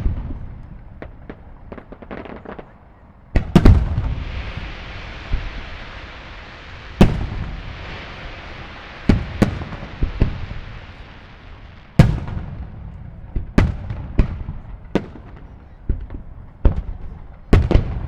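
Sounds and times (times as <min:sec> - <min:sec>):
firework hiss: 0:00.0 - 0:18.0
firework shells booming: 0:00.0 - 0:18.0.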